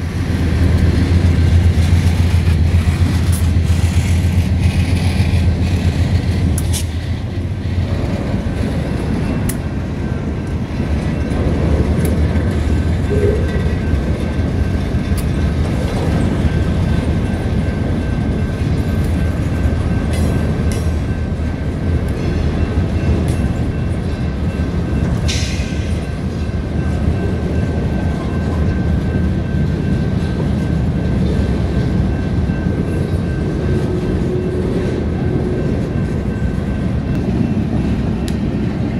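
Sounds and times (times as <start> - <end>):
boxcars rolling on rails: 0.0 - 38.9
locomotive engines humming: 0.0 - 38.9.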